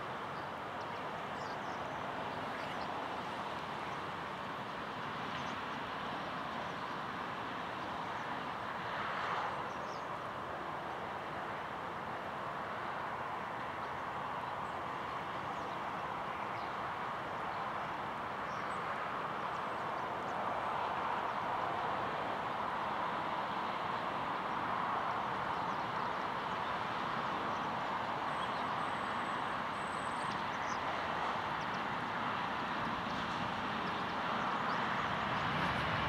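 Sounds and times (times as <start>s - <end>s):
jet engines rushing with whine: 0.1s - 36.0s.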